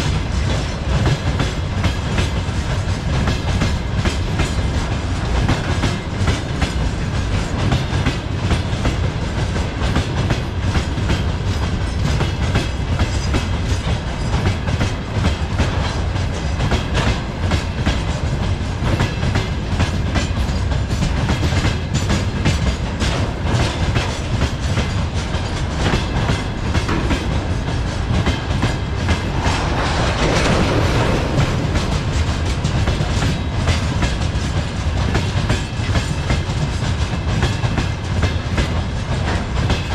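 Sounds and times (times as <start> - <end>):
freight train rumble: 0.0 - 39.9
wheels clacking over rail joints: 0.0 - 39.9.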